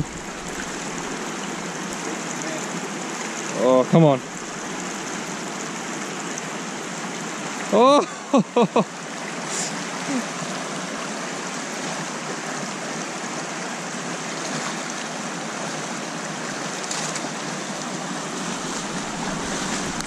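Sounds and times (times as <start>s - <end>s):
river rushing over stones: 0.0s - 20.0s
water splashes: 0.0s - 20.0s.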